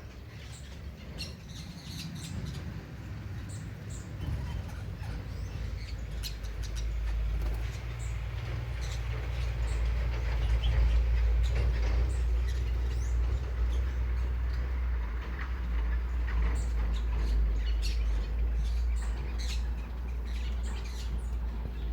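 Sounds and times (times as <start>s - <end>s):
birds chirping: 0.0s - 21.9s
steady low rumble: 2.6s - 21.9s.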